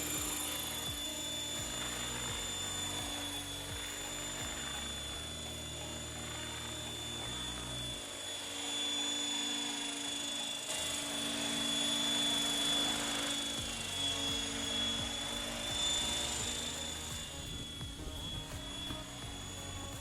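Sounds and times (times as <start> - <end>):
rc helicopter motor whine: 0.0 - 20.0
spinning rotor hum: 0.0 - 20.0.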